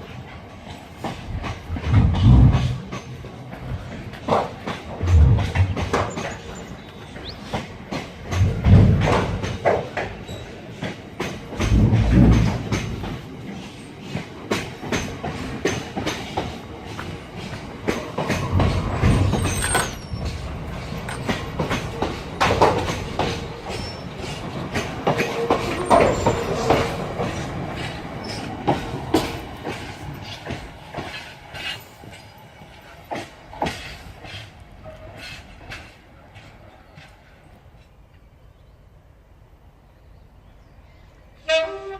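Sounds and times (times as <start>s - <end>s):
train wheels clicking over rail joints: 0.0s - 38.3s.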